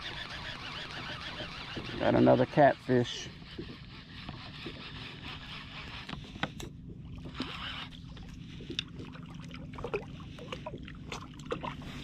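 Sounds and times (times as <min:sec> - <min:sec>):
water lapping against hull: 0:00.0 - 0:12.0.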